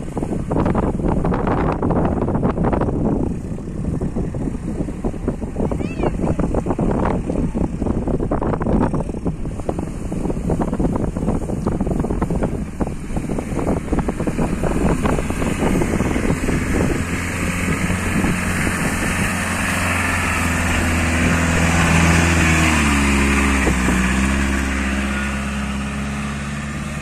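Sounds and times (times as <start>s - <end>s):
truck engine running: 0.0s - 27.0s
water splashing around wheels: 0.0s - 27.0s.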